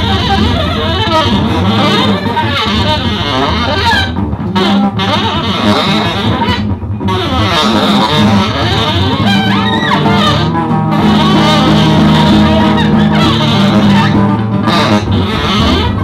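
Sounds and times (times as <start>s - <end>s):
amplified electric guitar: 0.0s - 16.0s
live rock music: 0.0s - 16.0s.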